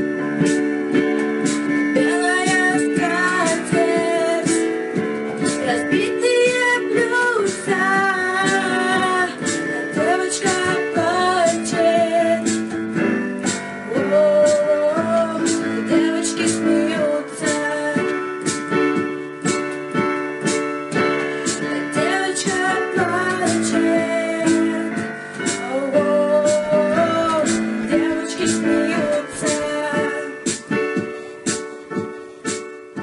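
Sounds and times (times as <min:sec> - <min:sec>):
electric keyboard piano music: 0:00.0 - 0:33.0.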